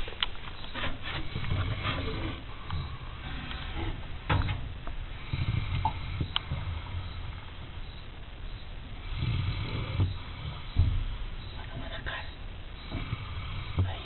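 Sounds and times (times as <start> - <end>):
dog snoring: 0.8 - 7.5, 9.0 - 14.0.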